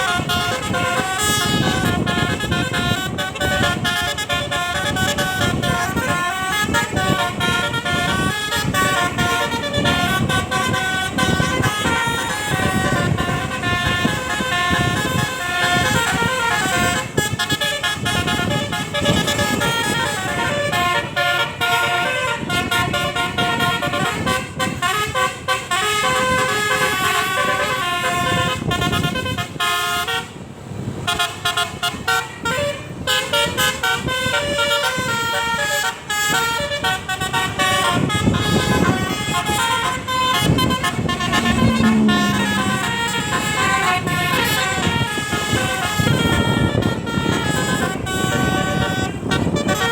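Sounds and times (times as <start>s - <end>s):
multi-tone bus air horns: 0.0s - 49.9s.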